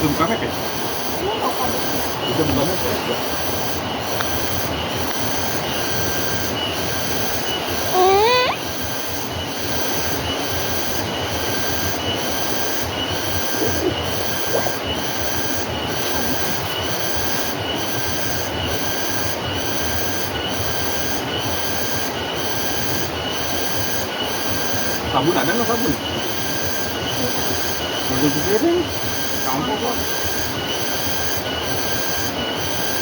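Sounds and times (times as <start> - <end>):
shrill insect chorus: 0.0 - 33.0.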